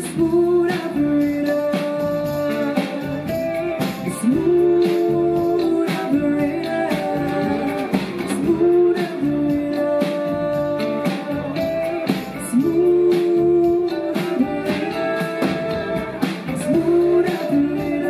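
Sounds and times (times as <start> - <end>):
drums and cymbals: 0.0 - 18.0
woman singing long notes: 0.4 - 18.0.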